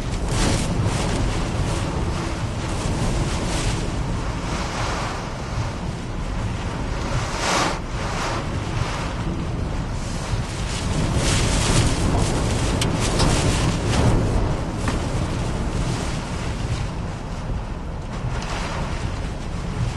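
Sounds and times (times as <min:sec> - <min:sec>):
wind rumbling on microphone: 0:00.0 - 0:19.9.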